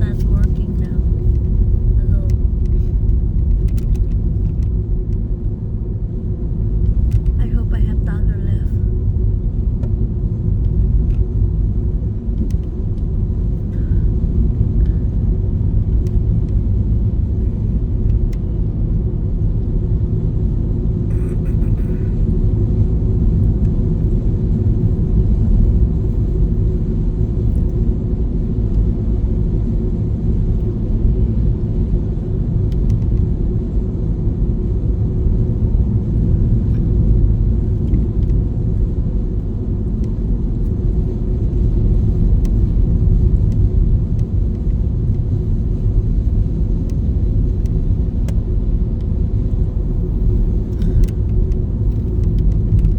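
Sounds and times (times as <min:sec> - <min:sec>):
car driving rumble in cabin: 0:00.0 - 0:52.9.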